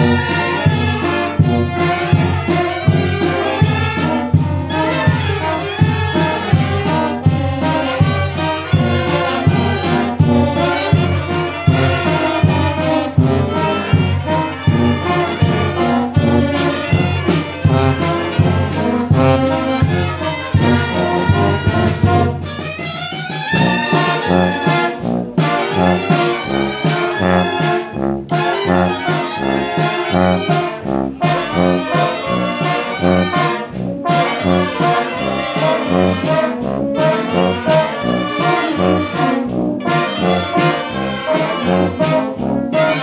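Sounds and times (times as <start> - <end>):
bass drum and cymbal beat: 0.0 - 40.8
brass band playing: 0.0 - 43.0
snare drum: 0.0 - 43.0.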